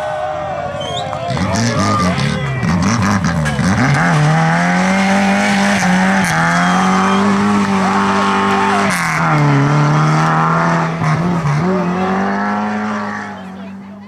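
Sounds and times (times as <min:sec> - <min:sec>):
race car engine at high revs: 0:01.3 - 0:14.0.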